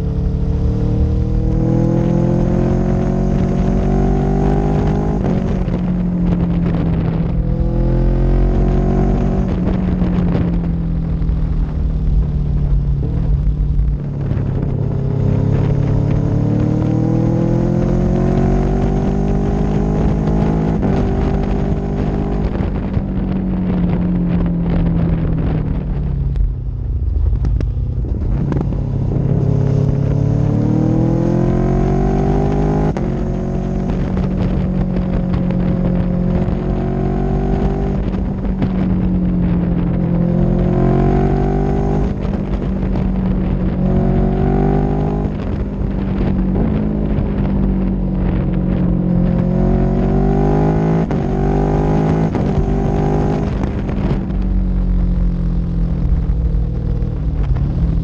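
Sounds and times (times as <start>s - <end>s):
vehicle engine accelerating: 0.0s - 58.0s
wind and road noise: 0.0s - 58.0s.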